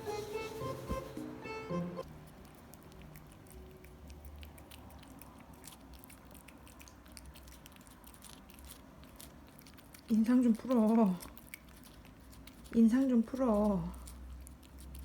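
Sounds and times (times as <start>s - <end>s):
cat chewing and licking: 1.7s - 15.0s.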